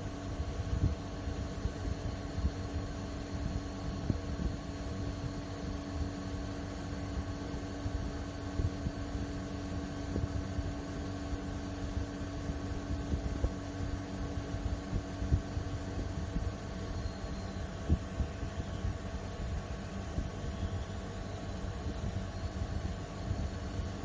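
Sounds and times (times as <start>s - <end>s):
air conditioner fan and compressor hum: 0.0s - 24.0s.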